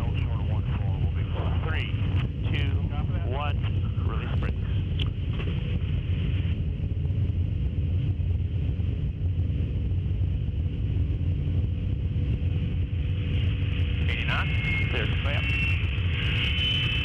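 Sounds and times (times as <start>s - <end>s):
faint steady hum: 0.0s - 17.0s
jet engines droning in flight: 0.0s - 17.0s.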